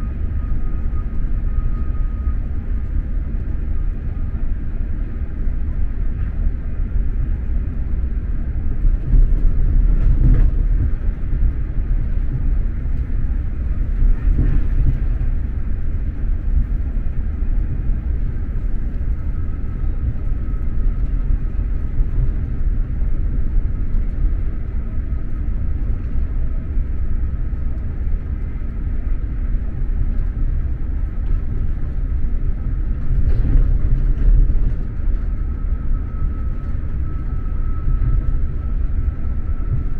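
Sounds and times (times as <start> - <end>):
faint steady whine: 0.0 - 39.9
train wheels rumbling on track: 0.0 - 39.9.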